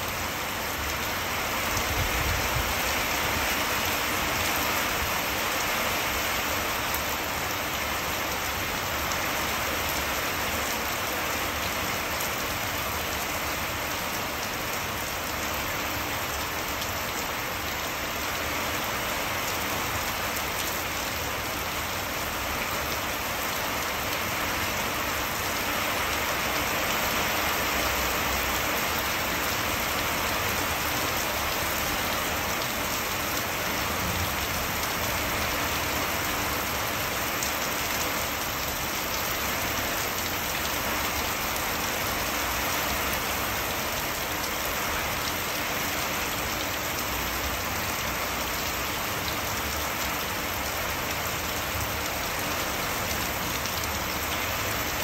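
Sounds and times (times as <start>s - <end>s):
heavy rain splashing into water: 0.0s - 55.0s.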